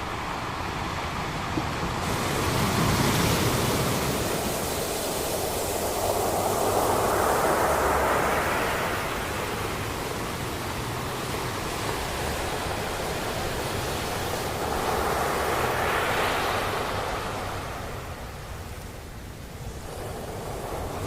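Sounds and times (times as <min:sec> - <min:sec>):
sea waves breaking on beach: 0:00.2 - 0:21.0.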